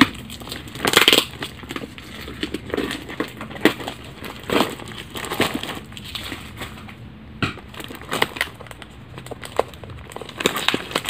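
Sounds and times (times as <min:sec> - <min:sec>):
paper wrapping tearing and crumpling: 0:00.0 - 0:06.9, 0:07.7 - 0:11.0.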